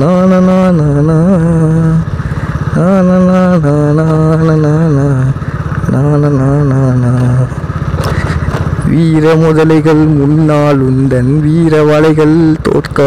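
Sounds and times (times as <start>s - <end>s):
man singing wordless tune: 0.0s - 7.7s, 8.8s - 13.0s
motorcycle engine running: 0.0s - 13.0s.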